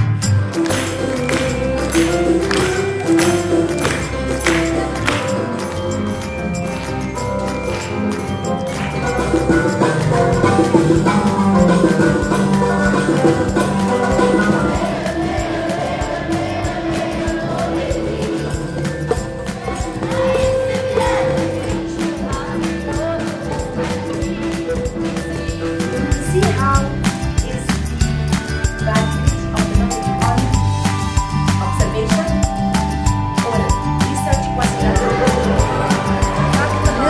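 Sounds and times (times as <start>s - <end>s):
music with percussion beat: 0.0s - 37.0s.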